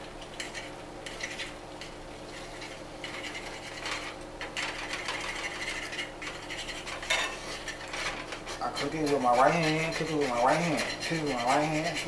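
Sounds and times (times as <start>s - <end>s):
steady low hum: 0.0s - 12.0s
utensil scraping eggs in pan: 0.3s - 12.0s.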